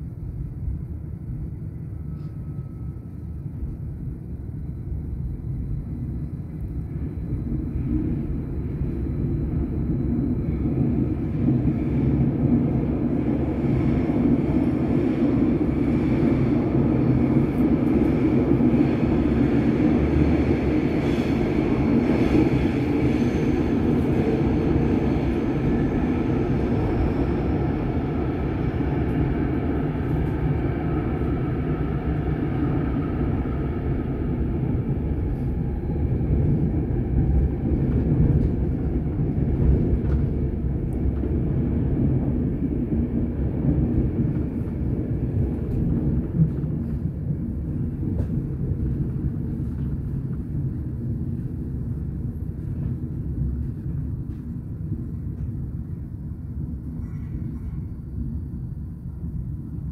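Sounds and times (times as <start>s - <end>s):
train cabin rumble: 0.0s - 59.9s
train wheel and motor noise: 0.0s - 59.9s.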